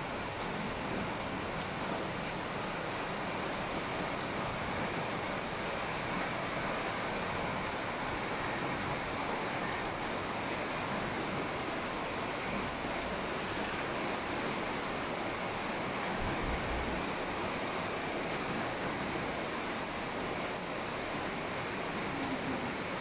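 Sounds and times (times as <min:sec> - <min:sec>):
floodwater rushing down a street: 0:00.0 - 0:23.0.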